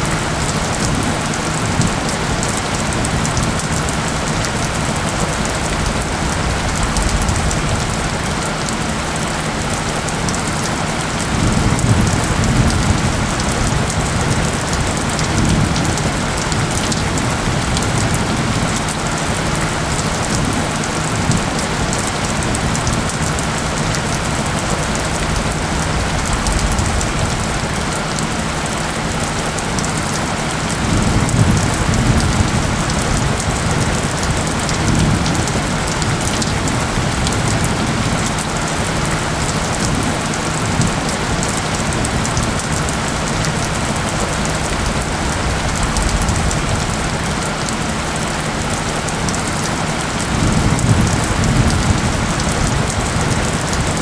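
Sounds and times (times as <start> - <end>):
low steady hum of tones: 0.0 - 54.0
rain pattering: 0.0 - 54.0.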